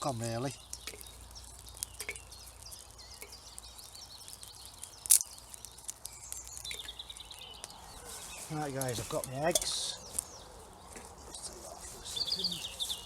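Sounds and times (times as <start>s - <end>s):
campfire crackling: 0.0s - 13.0s
songbirds twittering: 0.0s - 13.0s.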